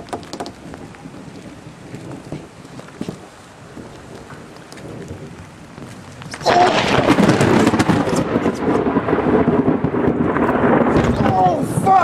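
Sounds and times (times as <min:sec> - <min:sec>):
rain falling: 0:00.0 - 0:12.0
thunderclap with crackling rumble: 0:00.0 - 0:12.0.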